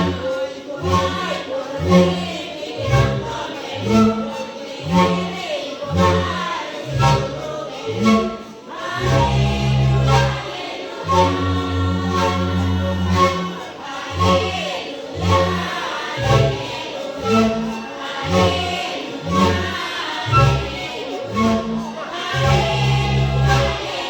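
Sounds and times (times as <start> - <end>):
several voices singing together: 0.0 - 24.0.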